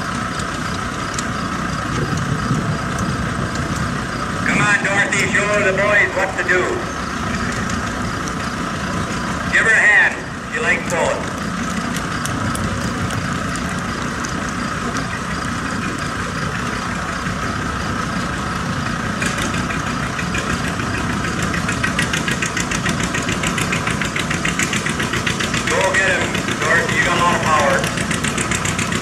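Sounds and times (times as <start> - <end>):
popping exhaust: 0.0 - 29.0
tractor engine under load: 0.0 - 29.0.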